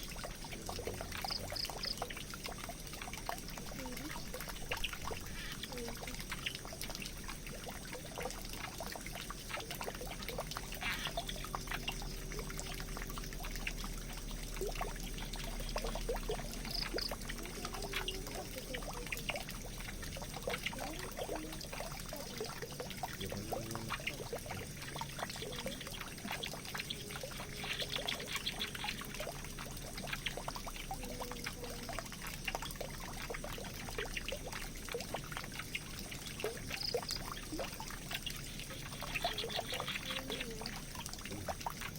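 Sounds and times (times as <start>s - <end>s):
water dripping and splashing: 0.0s - 41.9s
water pouring into a drain: 0.0s - 41.9s.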